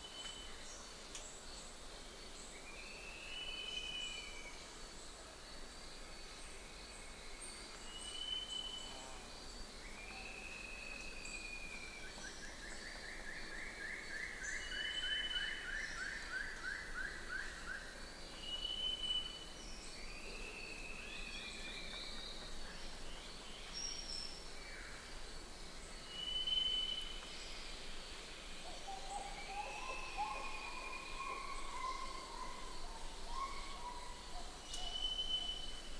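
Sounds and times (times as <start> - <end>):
background hiss: 0.0 - 35.9.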